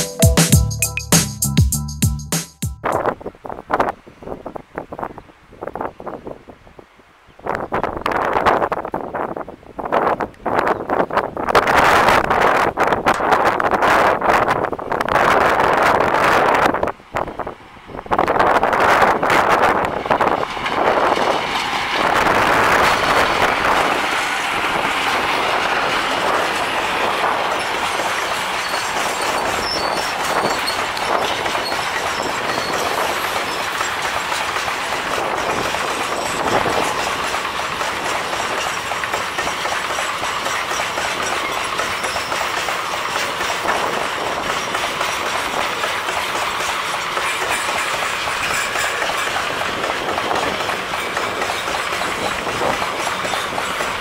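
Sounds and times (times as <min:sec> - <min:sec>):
train wheels rumbling on rail: 0:07.6 - 0:54.0
clickety-clack over rail joints: 0:10.0 - 0:54.0.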